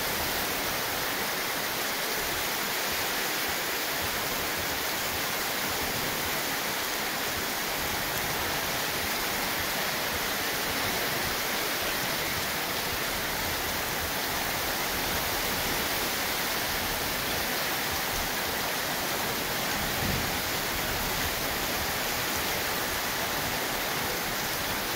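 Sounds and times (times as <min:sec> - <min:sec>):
heavy rain falling: 0:00.0 - 0:24.9.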